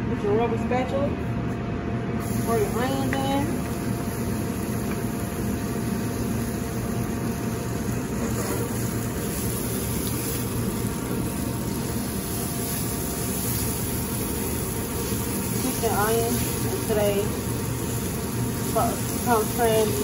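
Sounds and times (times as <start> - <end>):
kitchen ventilation and burners rushing: 0.0 - 20.0
onion frying in oil: 2.2 - 20.0.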